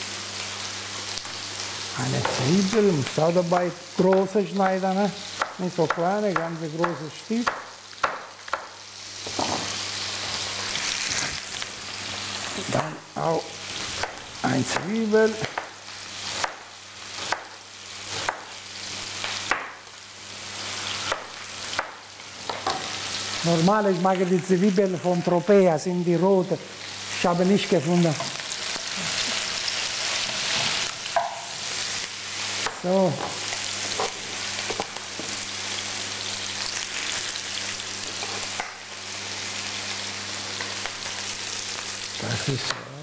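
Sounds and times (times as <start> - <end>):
food sizzling in frying pans: 0.0 - 43.0.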